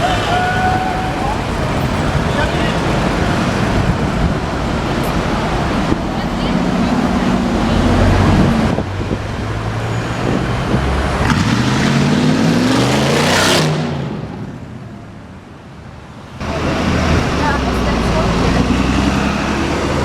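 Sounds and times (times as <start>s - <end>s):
loud traffic: 0.0s - 20.0s
car engine revving: 1.1s - 14.4s, 16.4s - 20.0s.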